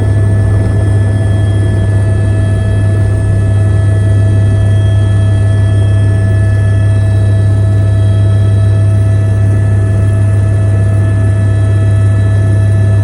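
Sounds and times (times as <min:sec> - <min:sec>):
helicopter drone and whine: 0:00.0 - 0:13.0.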